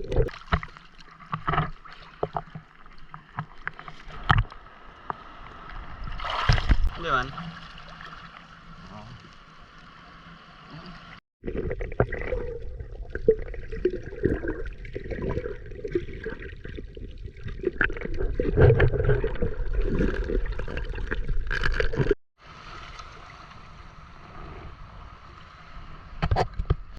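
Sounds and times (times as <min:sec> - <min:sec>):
water splashing and gurgling: 0:00.0 - 0:26.9.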